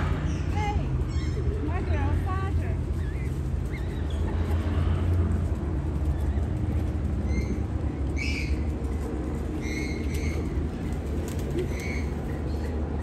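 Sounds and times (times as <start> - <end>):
bird calls: 0.0 - 5.2, 5.9 - 13.0
low rumble: 0.0 - 13.0.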